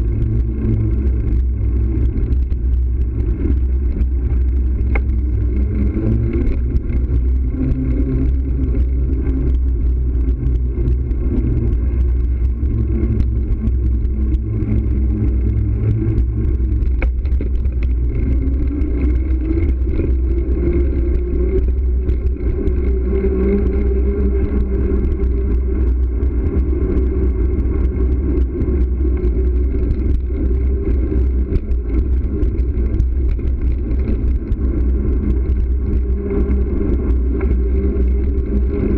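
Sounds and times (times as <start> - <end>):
hum rising in pitch: 0.0 - 38.9
wind and road rumble: 0.0 - 38.9.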